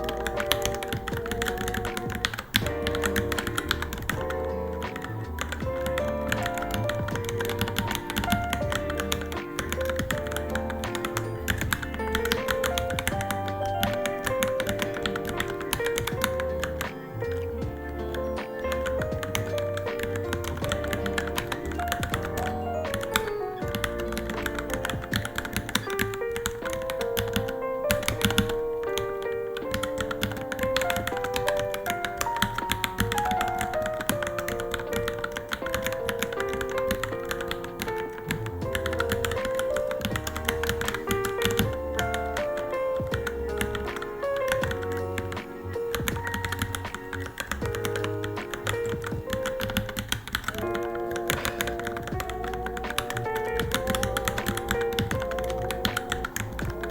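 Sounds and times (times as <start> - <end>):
background music with bass: 0.0 - 28.8, 29.9 - 56.9
mechanical keyboard typing: 0.0 - 56.9.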